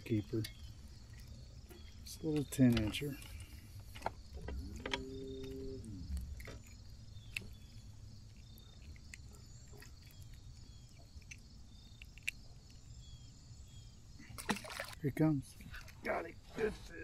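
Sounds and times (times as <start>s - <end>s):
insect chirring: 0.0s - 17.0s.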